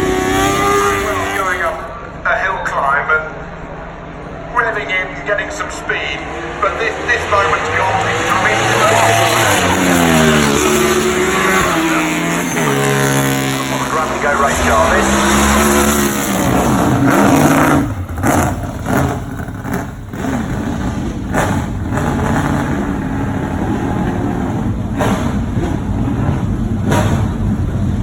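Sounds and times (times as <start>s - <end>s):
racing car engine revving: 0.0s - 2.2s, 3.5s - 28.0s.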